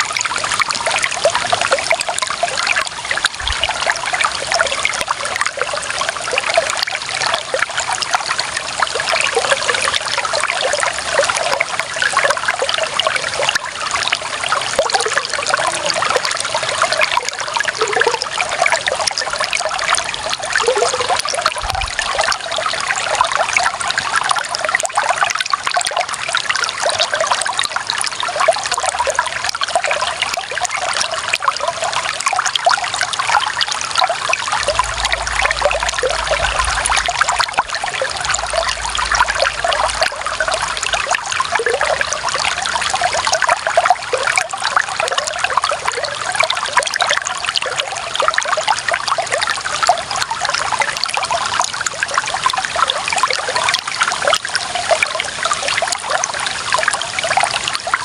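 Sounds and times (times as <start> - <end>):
running water trickling and splashing: 0.0 - 58.0.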